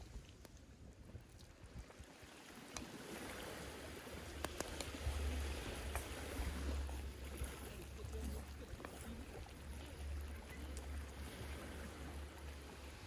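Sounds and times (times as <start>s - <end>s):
sea waves washing onto beach: 1.5s - 13.0s.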